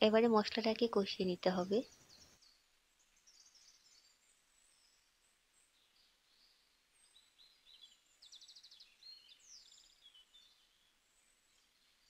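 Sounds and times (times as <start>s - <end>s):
faint bird chirps: 1.4s - 12.0s.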